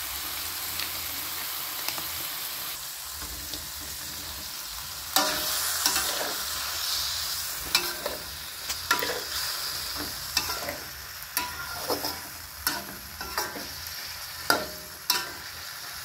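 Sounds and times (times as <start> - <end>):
sizzling in wok: 0.0 - 16.0
spatula scraping and knocking wok: 3.2 - 16.0.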